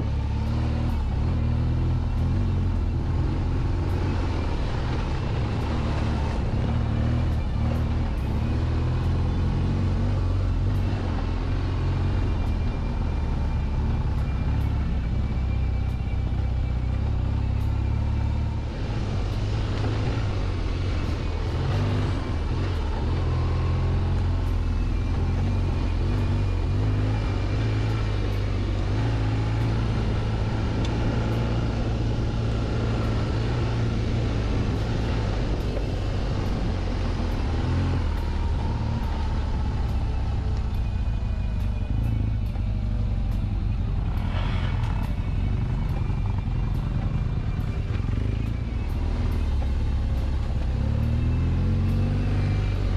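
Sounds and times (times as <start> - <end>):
motorcycle engine running: 0.0 - 52.9
wind rumble on microphone: 0.0 - 52.9.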